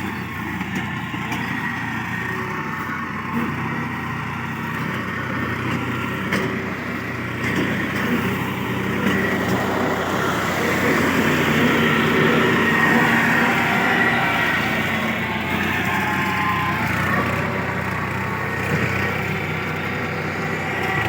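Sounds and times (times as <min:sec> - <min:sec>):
mulcher shredding grass and brush: 0:00.0 - 0:21.0
tractor engine under load: 0:00.0 - 0:21.0.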